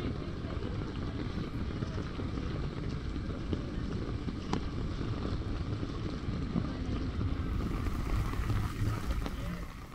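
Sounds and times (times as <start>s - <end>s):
heavy rain on street: 0.1s - 9.9s
wind buffeting microphone: 0.1s - 9.9s.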